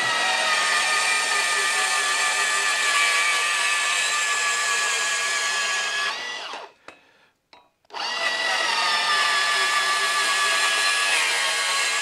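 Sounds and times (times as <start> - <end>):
bandsaw cutting steel: 0.0 - 6.7, 8.0 - 12.0.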